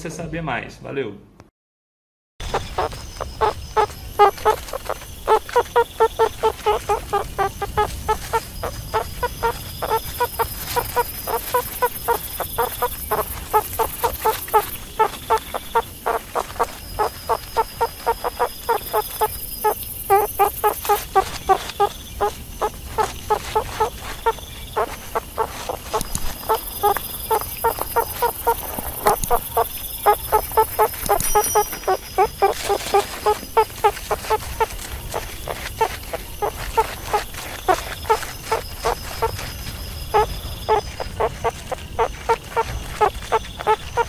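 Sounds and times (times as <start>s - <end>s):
meerkats clucking calls: 2.4s - 44.0s.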